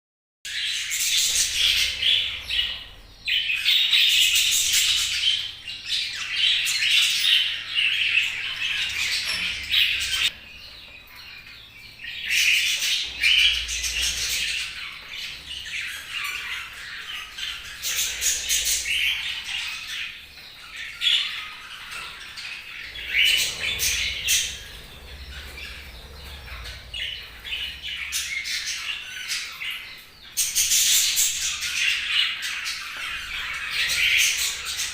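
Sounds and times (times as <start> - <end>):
budgerigars chirping and squawking: 0.5 - 34.9.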